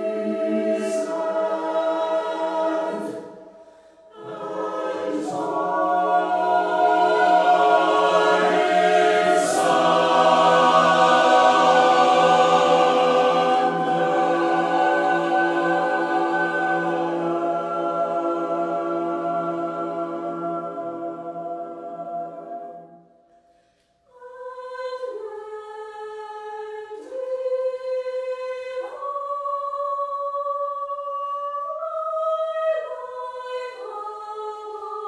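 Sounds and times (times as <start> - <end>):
choir singing a cappella: 0.0 - 23.1, 24.1 - 35.0.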